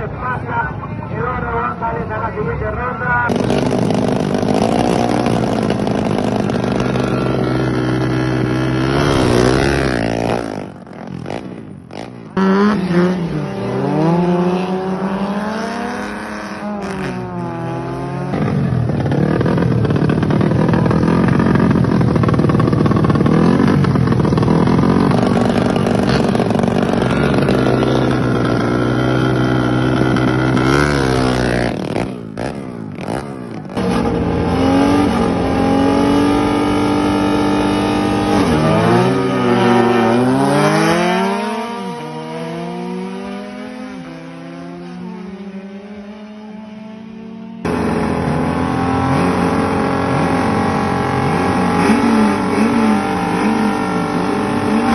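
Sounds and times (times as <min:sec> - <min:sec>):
car engine: 0:00.0 - 0:54.9
motorcycle engines revving: 0:01.1 - 0:54.9.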